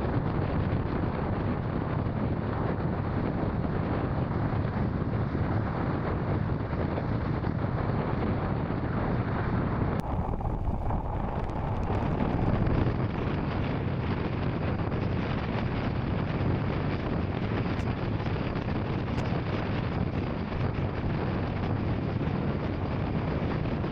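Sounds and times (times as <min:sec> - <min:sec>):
wind on microphone: 0:00.0 - 0:23.9.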